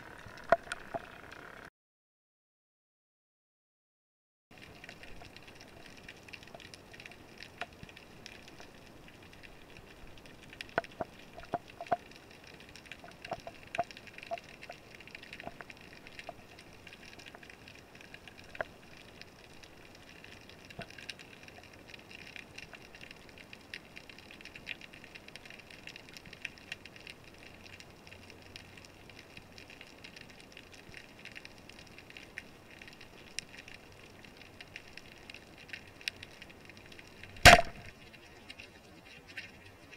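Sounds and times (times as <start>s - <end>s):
fine underwater crackle: 0.0s - 1.7s, 4.5s - 39.9s
underwater clicks: 0.0s - 1.7s, 4.6s - 28.9s, 29.6s - 39.9s.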